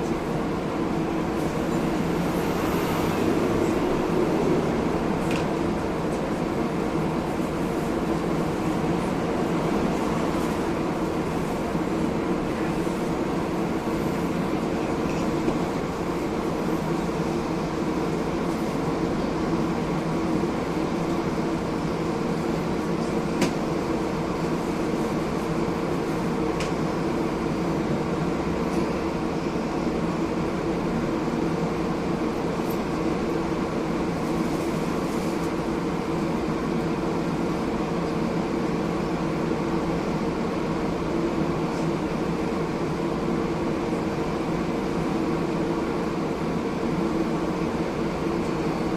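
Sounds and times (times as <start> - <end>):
tram cabin noise: 0.0 - 48.9.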